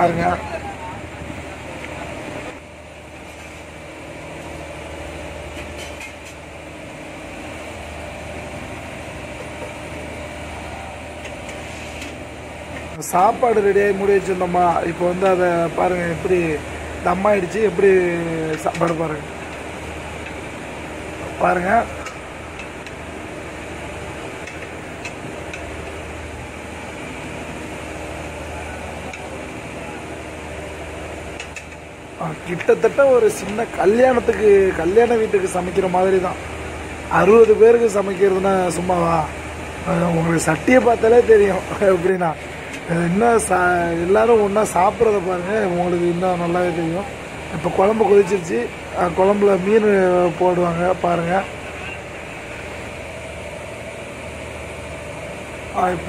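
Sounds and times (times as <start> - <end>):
boat engine humming: 0.0 - 56.0.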